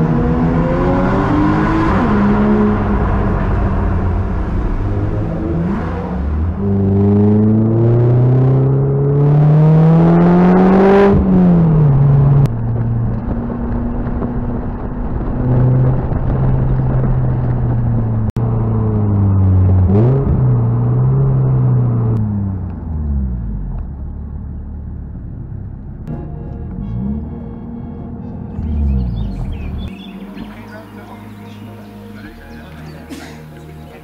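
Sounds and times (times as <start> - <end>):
car engine revving through gears: 0.0 - 24.0, 26.0 - 34.0.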